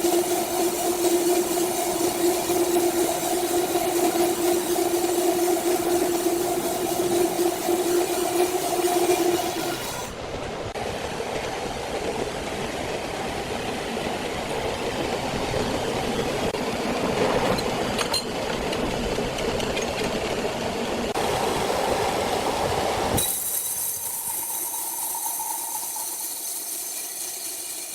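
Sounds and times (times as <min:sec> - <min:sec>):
sawmill machinery running: 0:00.0 - 0:27.9.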